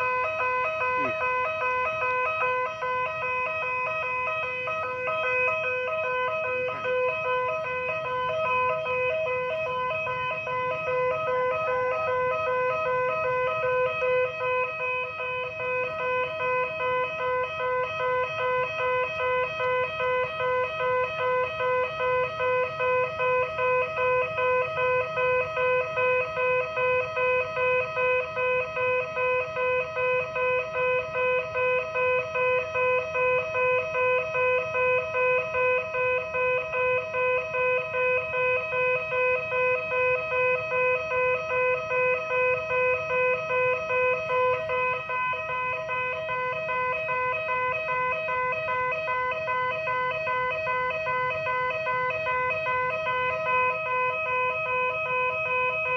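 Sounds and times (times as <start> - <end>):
level crossing warning siren: 0.0 - 55.9.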